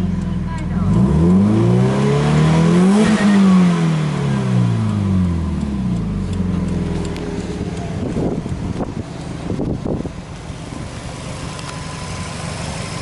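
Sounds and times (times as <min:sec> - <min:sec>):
car engine revving then idling: 0:00.0 - 0:13.0.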